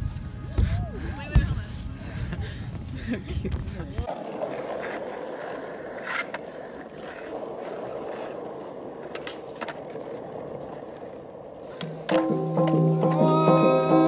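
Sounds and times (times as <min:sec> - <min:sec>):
skateboard wheels rolling: 0:00.0 - 0:14.0.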